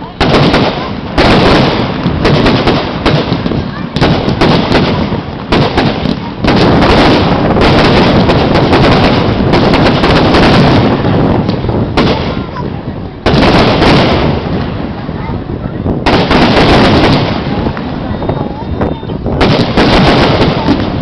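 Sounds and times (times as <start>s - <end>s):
fireworks bursting with bangs and crackle: 0.0s - 21.0s.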